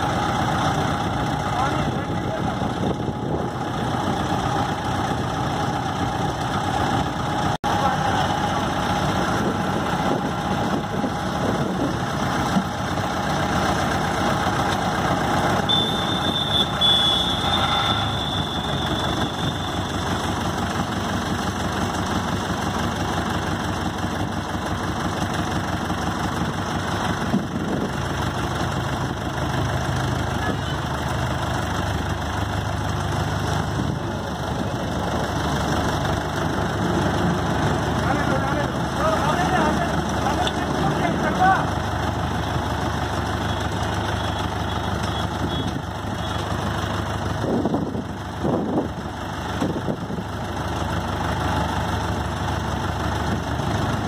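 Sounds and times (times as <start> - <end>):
road roller engine idling: 0.0 - 54.0.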